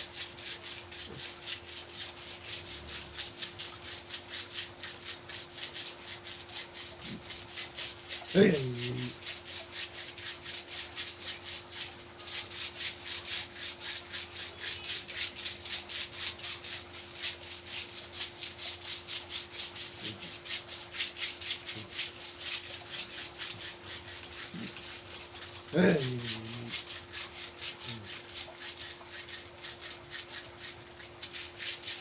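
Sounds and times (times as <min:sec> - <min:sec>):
massage strokes rubbing skin: 0:00.0 - 0:32.0.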